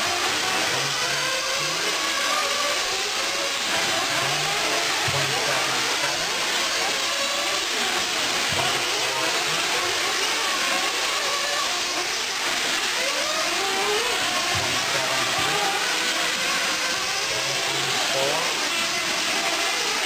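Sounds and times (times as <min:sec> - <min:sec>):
small engines whining: 0:00.0 - 0:20.0.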